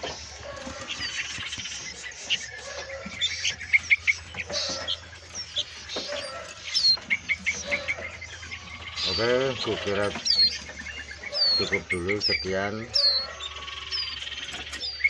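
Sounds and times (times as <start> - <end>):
songbirds chirping and calling: 0.0 - 15.0.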